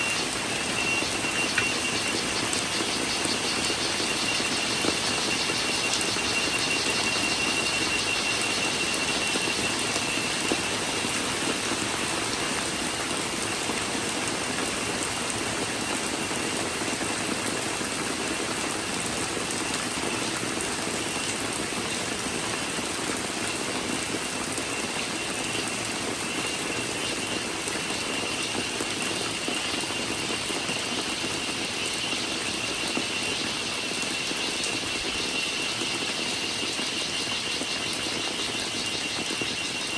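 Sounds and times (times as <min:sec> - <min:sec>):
high cicada drone: 0:00.0 - 0:39.9
steady rain: 0:00.0 - 0:39.9.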